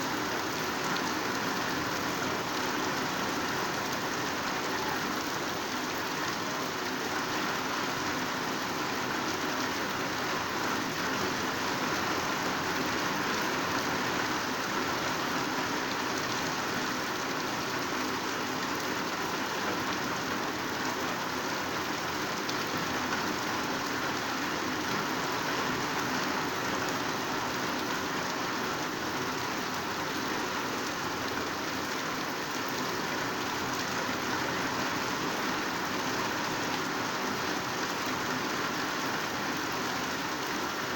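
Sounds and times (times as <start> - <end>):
heavy rain on vegetation: 0.0 - 40.9.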